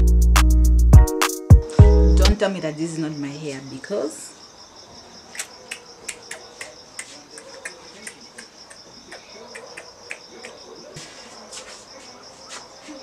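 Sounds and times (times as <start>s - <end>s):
crickets chirping: 1.7s - 13.0s.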